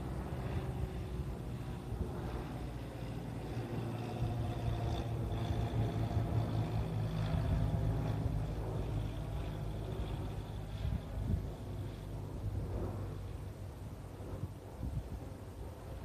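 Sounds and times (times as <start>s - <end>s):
propeller plane droning overhead: 0.0s - 16.0s.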